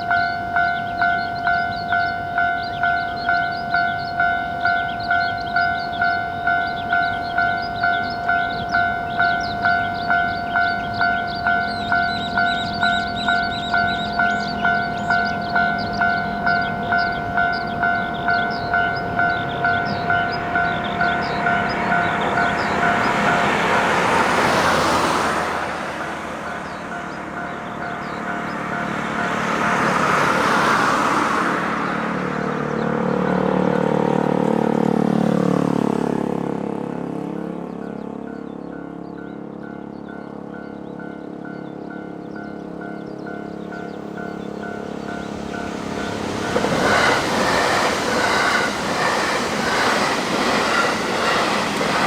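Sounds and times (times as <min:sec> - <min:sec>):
railroad crossing bell ringing: 0:00.0 - 0:52.0
train passing: 0:00.0 - 0:52.0.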